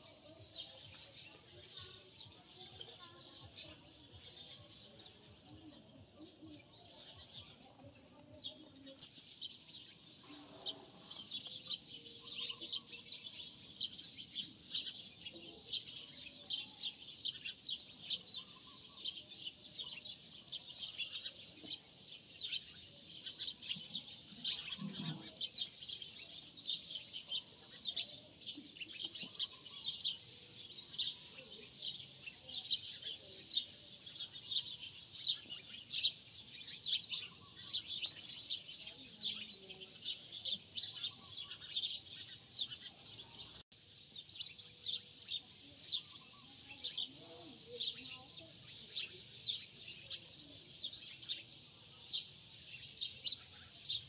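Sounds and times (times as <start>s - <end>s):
flock of birds chirping: 0.0s - 54.0s.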